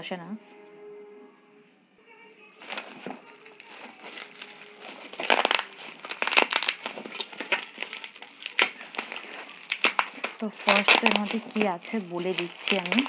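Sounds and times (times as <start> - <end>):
bubble wrap crinkling: 2.5 - 13.0.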